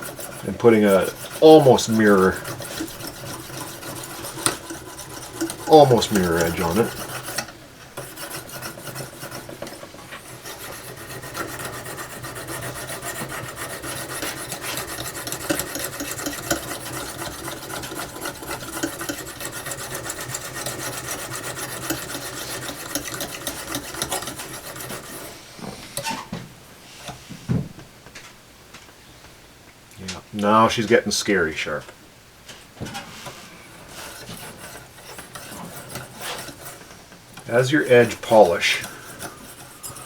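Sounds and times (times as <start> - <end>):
hone scraping steel blade: 0.0 - 26.2, 33.0 - 40.0.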